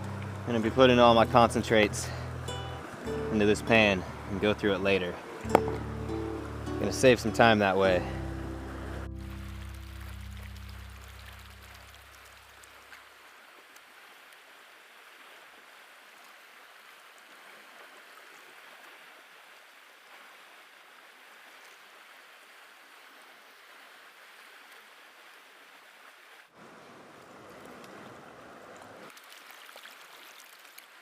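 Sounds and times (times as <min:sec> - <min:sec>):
stream water flowing: 0:00.0 - 0:31.0.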